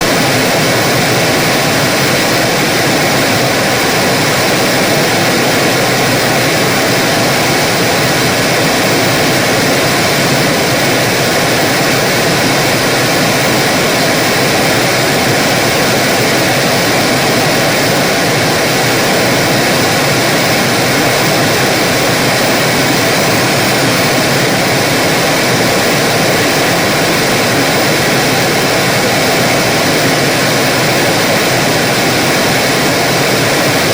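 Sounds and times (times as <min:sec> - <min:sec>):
television static hiss: 0:00.0 - 0:33.9.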